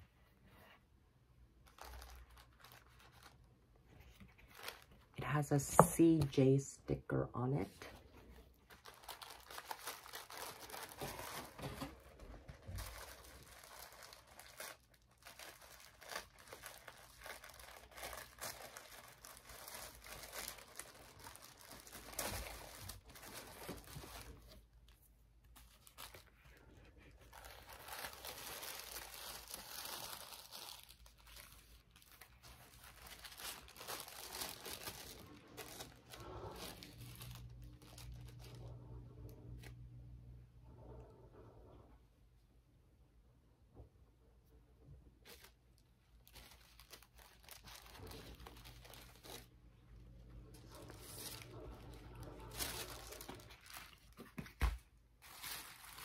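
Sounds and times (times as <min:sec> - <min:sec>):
tissue paper rustling: 0:00.0 - 0:06.4, 0:07.6 - 0:38.8, 0:45.2 - 0:49.6, 0:50.5 - 0:56.0.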